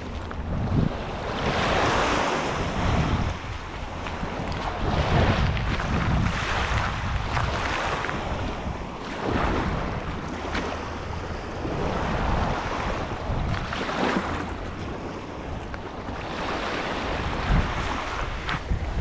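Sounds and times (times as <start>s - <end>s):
waves breaking on shore: 0.0s - 19.0s
wind rumbling on microphone: 0.0s - 19.0s.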